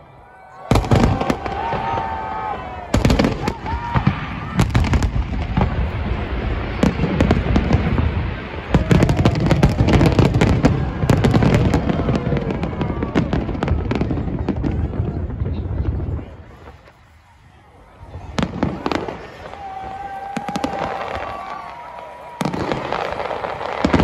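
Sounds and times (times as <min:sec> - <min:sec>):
crowd voices calling out: 0:00.0 - 0:24.0
fireworks bangs: 0:00.6 - 0:24.0.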